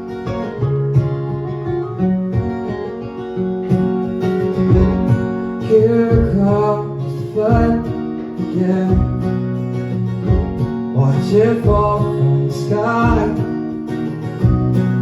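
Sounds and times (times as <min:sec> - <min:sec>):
acoustic guitar strumming: 0:00.0 - 0:15.0
folk melody line: 0:00.0 - 0:15.0.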